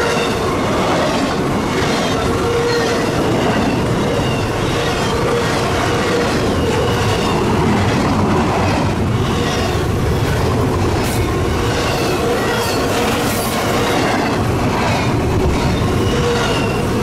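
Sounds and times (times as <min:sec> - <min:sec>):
clatter over the track: 0:00.0 - 0:17.0
train wheels rumbling on rail: 0:00.0 - 0:17.0.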